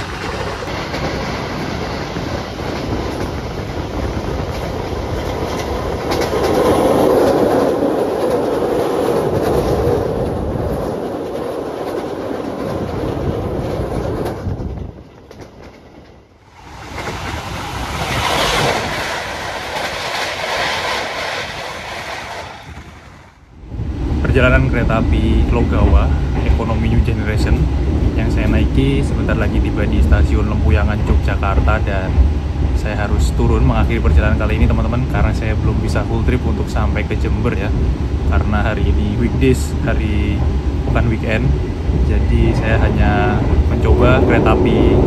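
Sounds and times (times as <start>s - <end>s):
train rumble with wheel clicks: 0.0s - 45.0s.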